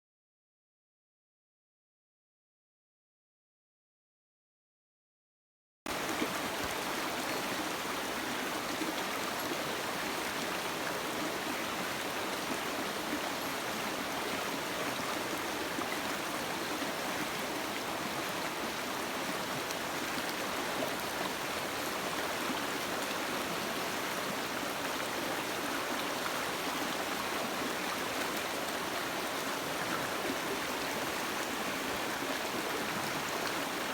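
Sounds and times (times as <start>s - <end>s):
stream water flowing over rocks: 5.9s - 33.9s.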